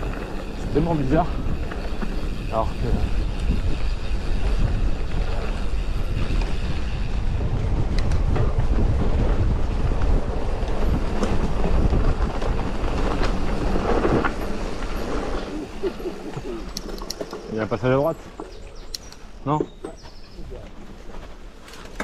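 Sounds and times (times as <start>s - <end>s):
bike tyres rumbling on dirt: 0.0s - 18.9s
bike clicks and rattles: 0.0s - 22.0s.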